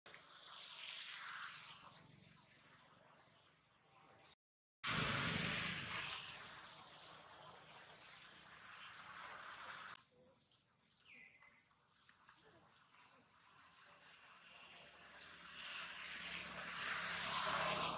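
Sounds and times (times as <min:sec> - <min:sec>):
insects chirring: 0:00.1 - 0:17.9.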